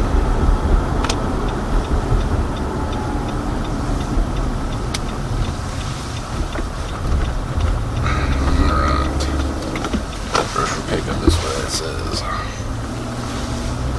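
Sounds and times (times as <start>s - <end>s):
road and engine rumble: 0.0s - 13.9s
turn signal ticking: 0.0s - 13.9s.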